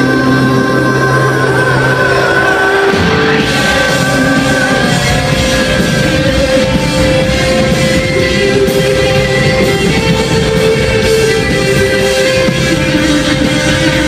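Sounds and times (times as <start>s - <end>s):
person singing: 0.0s - 14.0s
rock band playing: 0.0s - 14.0s.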